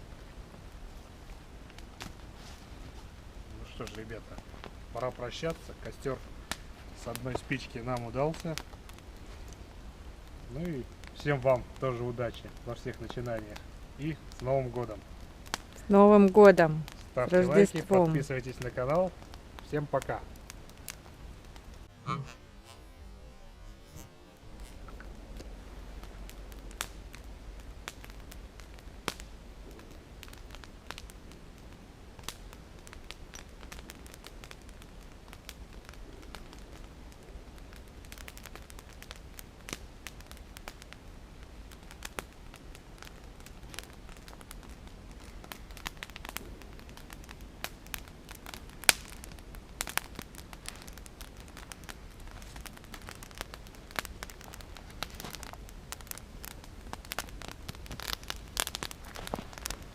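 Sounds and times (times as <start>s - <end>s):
campfire crackling and popping: 0.0s - 59.9s
low steady hiss: 0.0s - 59.9s.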